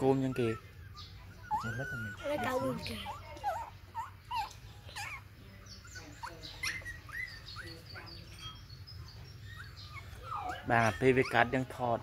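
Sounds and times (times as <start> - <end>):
puppies whimpering: 0.0 - 12.0.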